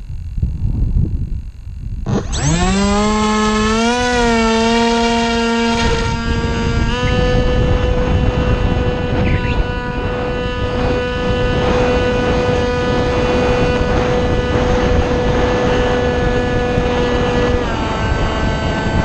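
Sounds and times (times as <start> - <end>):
wind rumble on microphone: 0.0 - 19.0
model plane motor whine: 2.0 - 19.0.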